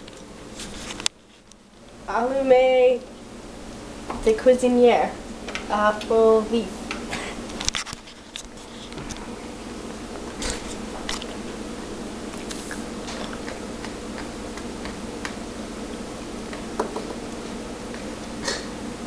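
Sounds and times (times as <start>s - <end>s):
background hum: 0.0s - 19.0s.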